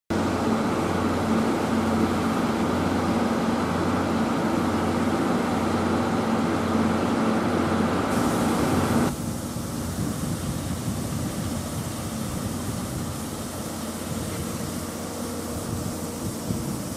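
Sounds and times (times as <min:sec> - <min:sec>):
mechanical hum: 0:00.1 - 0:16.9.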